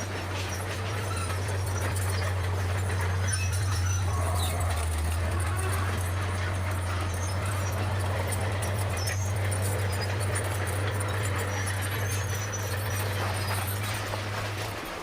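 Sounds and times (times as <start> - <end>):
bulldozer diesel engine droning: 0.0 - 15.0
light clanking: 0.0 - 15.0.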